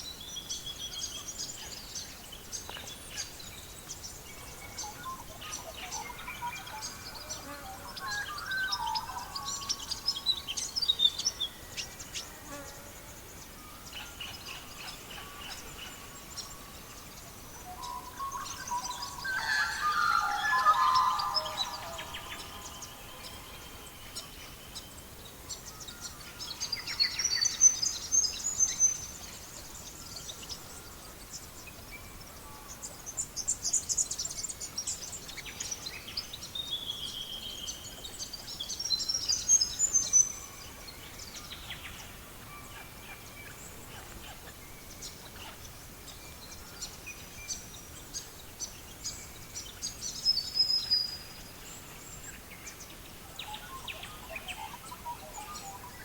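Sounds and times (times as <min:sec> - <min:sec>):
songbirds chirping and whistling: 0:00.2 - 0:12.1, 0:13.7 - 0:32.1, 0:32.8 - 0:56.0.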